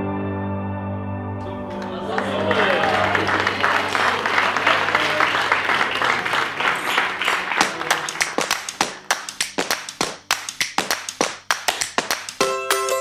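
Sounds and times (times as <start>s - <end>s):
crowd applauding: 1.4s - 12.4s.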